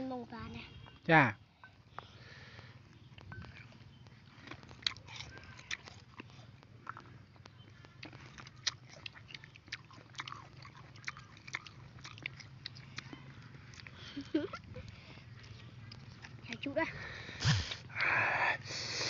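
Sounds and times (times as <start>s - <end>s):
children chewing crunchy fruit: 0.0s - 19.0s.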